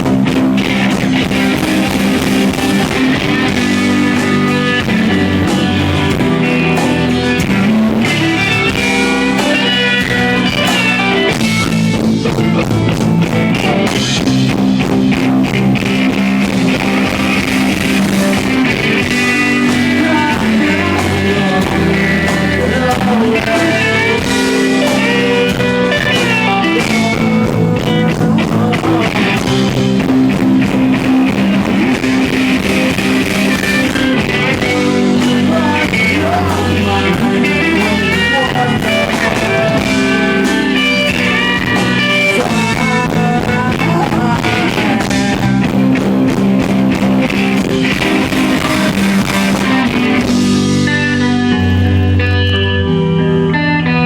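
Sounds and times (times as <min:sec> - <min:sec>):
electric guitar melodic lines: 0:00.0 - 0:54.0
live rock band playing: 0:00.0 - 0:54.0.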